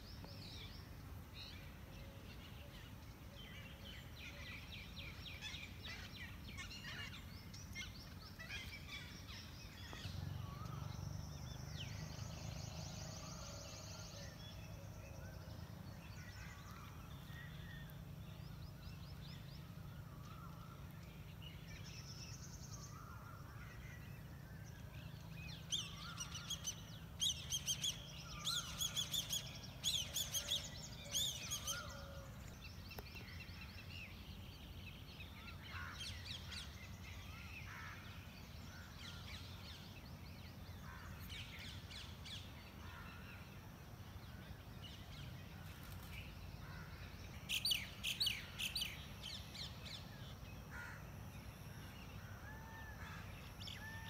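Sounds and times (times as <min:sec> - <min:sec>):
birds calling and chirping: 0:00.0 - 0:54.0.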